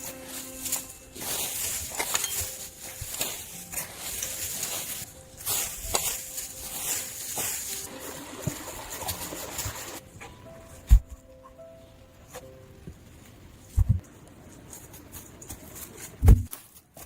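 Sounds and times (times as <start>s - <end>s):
rustling and crunching: 0.0s - 11.3s, 12.2s - 17.0s.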